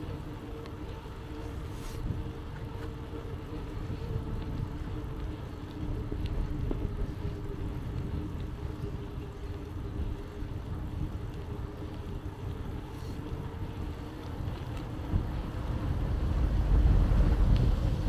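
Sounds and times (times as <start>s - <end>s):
bicycle tyre and road noise: 0.0s - 18.0s
faint ticks: 0.0s - 18.0s
steady hum: 0.0s - 18.0s
wind buffeting microphone: 0.0s - 18.0s.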